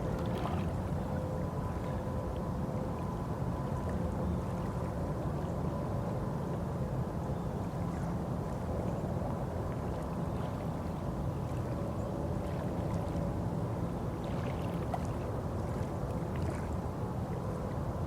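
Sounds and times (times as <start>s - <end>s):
boat rumbling on water: 0.0s - 18.0s
faint steady hum: 0.0s - 18.0s.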